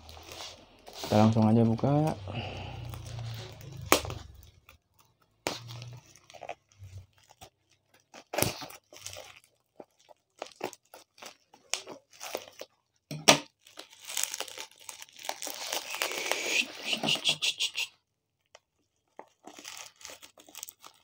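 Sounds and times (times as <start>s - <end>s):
bubble wrap crinkling: 0.0s - 17.4s, 18.4s - 21.0s.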